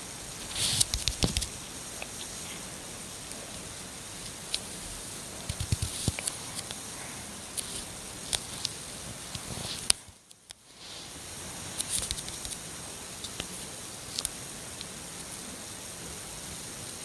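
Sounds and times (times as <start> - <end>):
steady hiss: 0.0 - 17.0
small clicks and crackles: 0.3 - 11.0, 11.6 - 15.8.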